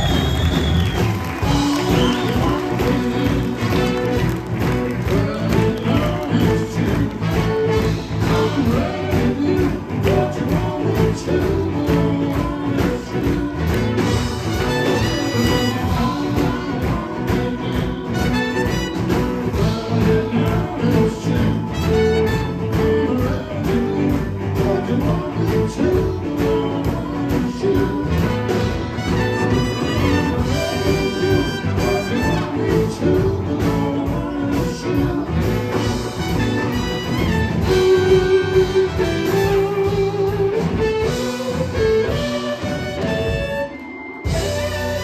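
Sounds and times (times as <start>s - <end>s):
blues-rock band playing live: 0.0s - 45.0s.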